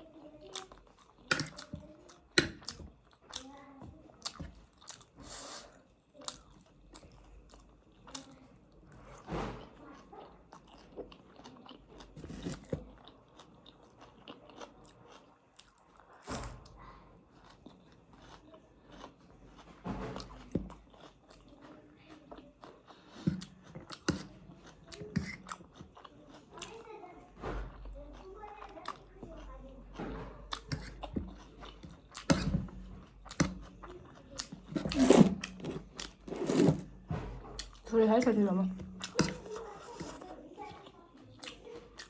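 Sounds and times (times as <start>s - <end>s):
person chewing food: 0.4s - 9.3s, 10.1s - 16.2s, 17.3s - 26.8s, 30.4s - 37.9s, 38.7s - 42.0s.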